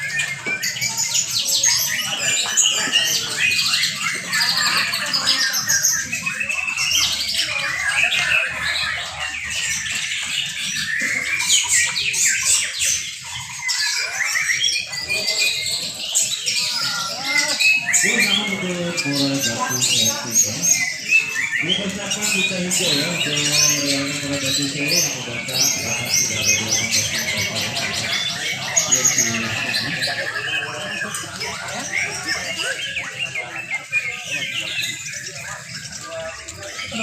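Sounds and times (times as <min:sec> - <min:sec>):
birds singing trills and whistles: 0:00.0 - 0:37.0.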